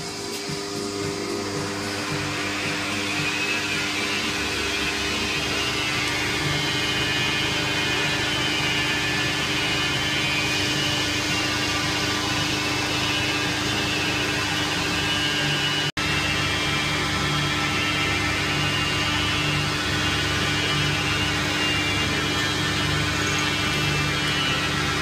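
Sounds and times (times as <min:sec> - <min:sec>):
metal lathe motor whine: 0:00.0 - 0:25.0
turning tool cutting metal: 0:00.0 - 0:25.0.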